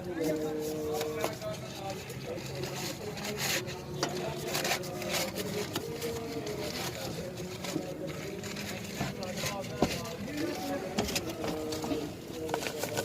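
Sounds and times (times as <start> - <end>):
brush scraping on concrete: 0.0 - 13.0.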